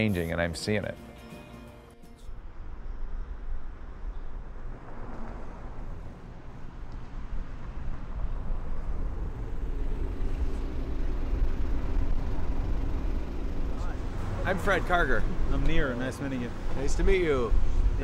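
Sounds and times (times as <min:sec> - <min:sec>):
street traffic rumble: 0:02.2 - 0:18.0.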